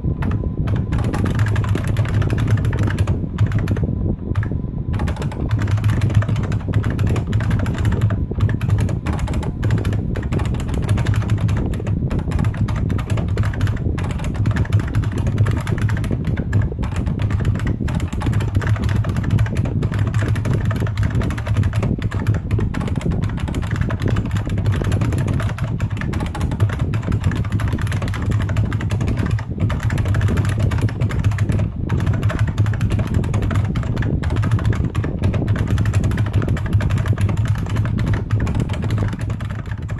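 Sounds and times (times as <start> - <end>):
fast typing on a clicky keyboard: 0.0 - 39.9
steady low hum: 0.0 - 39.9.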